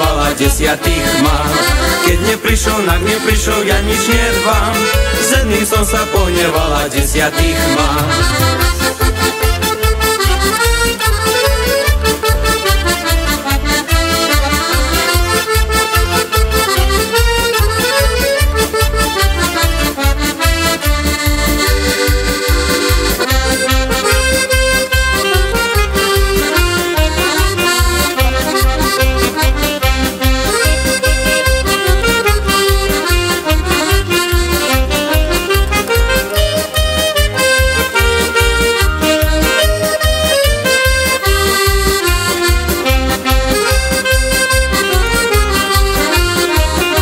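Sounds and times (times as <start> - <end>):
accordion playing lively melody: 0.0 - 47.0
steady bass beat: 0.0 - 47.0.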